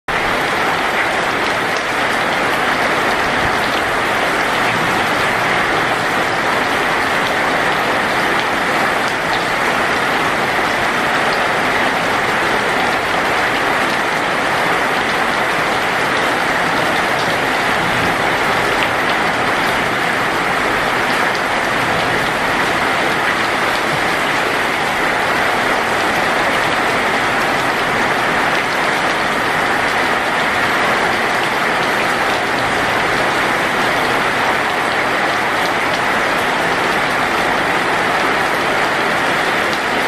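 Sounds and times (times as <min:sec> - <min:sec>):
heavy rain on leaves: 0:00.1 - 0:40.0.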